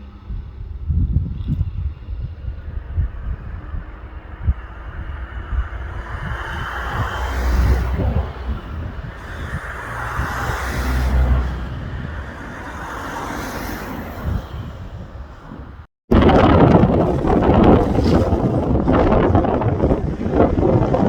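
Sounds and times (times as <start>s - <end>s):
aircraft engine noise: 0.0s - 21.0s
low rumbling gusts: 0.0s - 21.0s.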